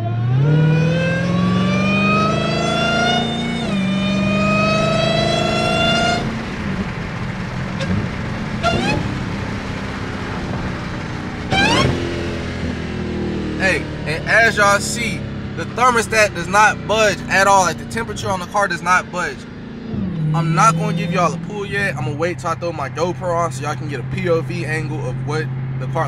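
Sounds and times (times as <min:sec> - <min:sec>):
car engine accelerating hard: 0:00.0 - 0:26.0
engine revving: 0:00.0 - 0:26.0
supercharger whine: 0:00.0 - 0:26.0.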